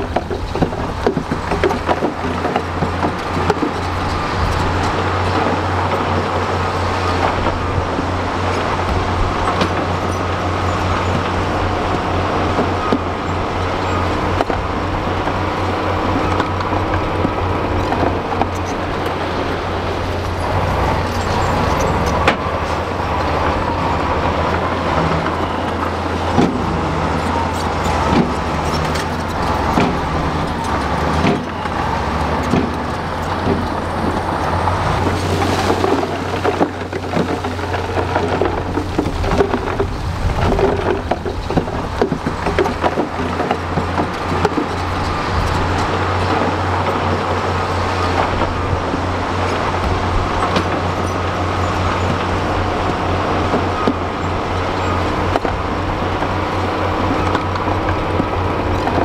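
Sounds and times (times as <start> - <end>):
heavy diesel engines running: 0.0 - 59.0
rock and soil falling: 9.4 - 59.0.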